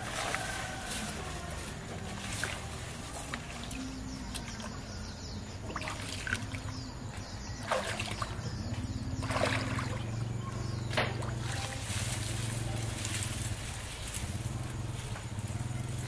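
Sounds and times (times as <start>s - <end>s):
low steady drone: 0.0s - 16.0s
wading through shallow water: 0.0s - 16.0s.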